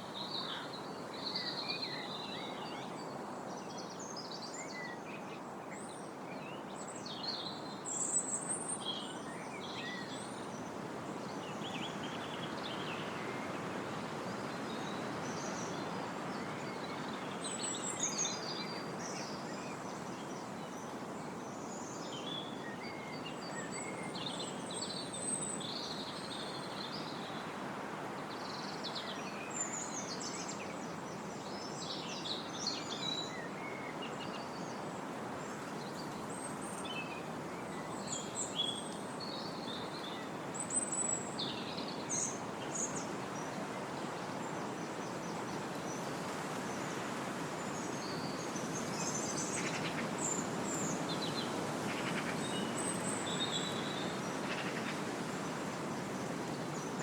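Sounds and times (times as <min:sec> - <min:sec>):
wind rushing through trees: 0:09.1 - 0:57.0.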